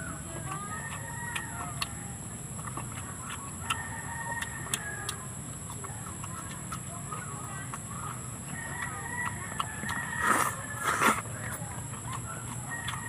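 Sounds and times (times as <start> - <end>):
wet chewing and lip smacks: 0.0 - 13.0.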